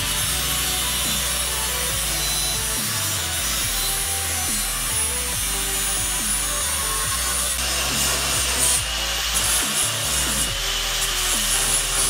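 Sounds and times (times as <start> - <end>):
angle grinder on steel: 0.0 - 12.0
electronic music with bass: 0.0 - 12.0.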